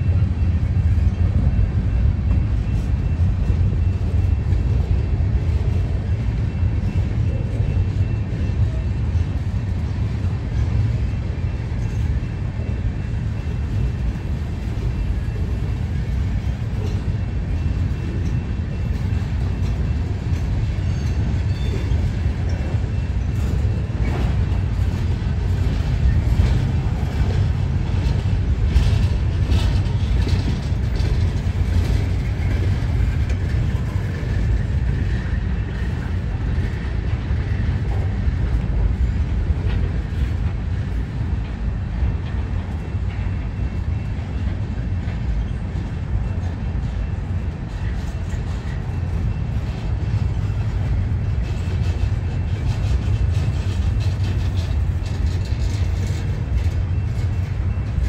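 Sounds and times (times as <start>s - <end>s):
freight cars clanking and rattling: 0.0s - 58.0s
train wheels rumbling on rail: 0.0s - 58.0s.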